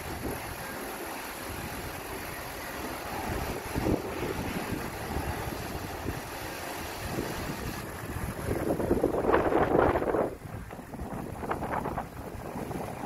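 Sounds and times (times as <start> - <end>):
diesel truck engine at low revs: 0.0 - 13.0.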